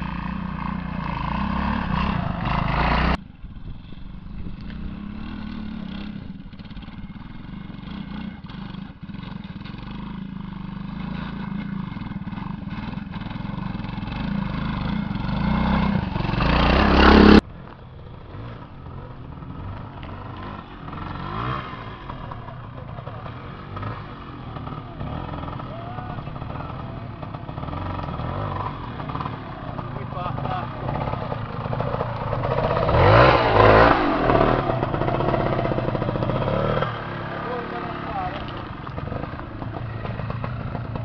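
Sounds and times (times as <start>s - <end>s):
approaching motorcycle: 0.0s - 41.0s
motorcycle engines at low revs: 0.0s - 41.0s.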